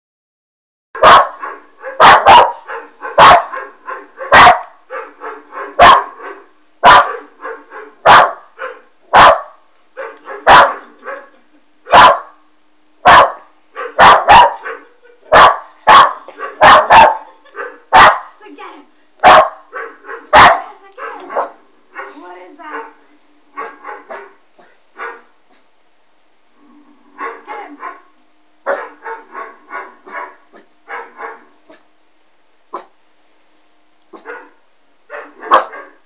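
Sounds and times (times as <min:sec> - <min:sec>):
puppy barking: 0:01.0 - 0:12.4, 0:13.0 - 0:18.4, 0:19.2 - 0:25.4, 0:27.2 - 0:31.8, 0:34.1 - 0:36.0.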